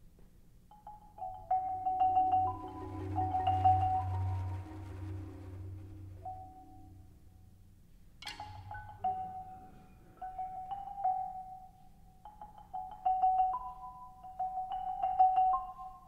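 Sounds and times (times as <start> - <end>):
marimbas played with mallets: 0.7 - 7.3, 8.2 - 16.0.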